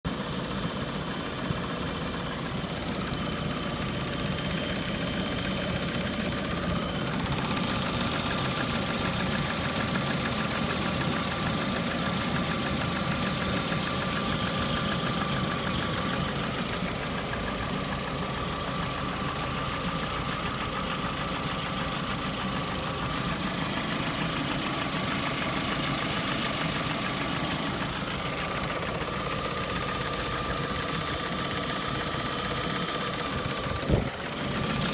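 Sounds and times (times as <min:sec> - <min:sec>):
car engine running: 0:00.1 - 0:34.9
engine knocking: 0:00.1 - 0:34.9.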